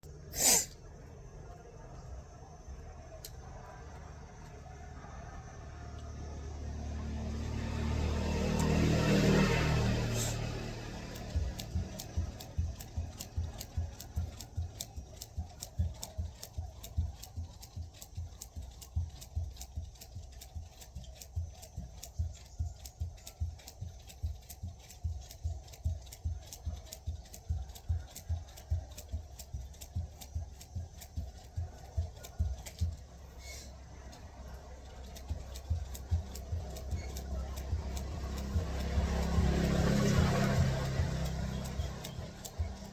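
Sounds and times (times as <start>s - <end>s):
jump rope slapping ground: 7.4s - 33.3s, 34.0s - 42.9s.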